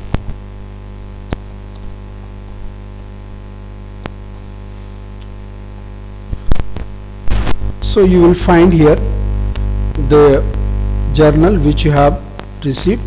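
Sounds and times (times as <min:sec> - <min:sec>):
steady mains hum: 0:00.0 - 0:13.0.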